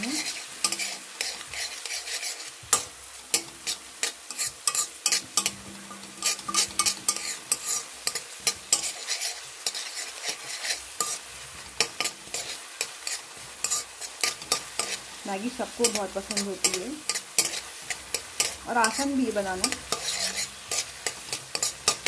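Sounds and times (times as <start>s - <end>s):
metal spatula scraping a pan: 0.0s - 22.0s
vegetables sizzling in hot oil: 0.0s - 22.0s.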